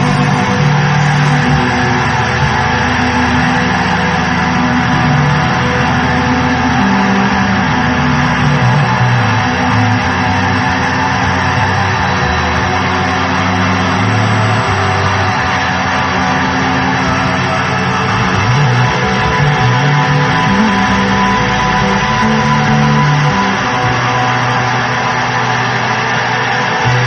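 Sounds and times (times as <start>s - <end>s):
distorted electric guitar rock: 0.0s - 27.0s.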